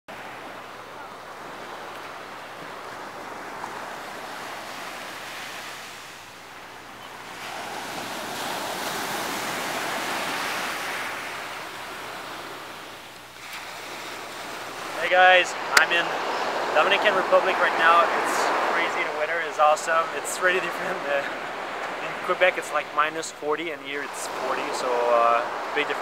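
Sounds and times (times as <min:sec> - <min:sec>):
ocean surf washing up beach: 0:00.1 - 0:26.0.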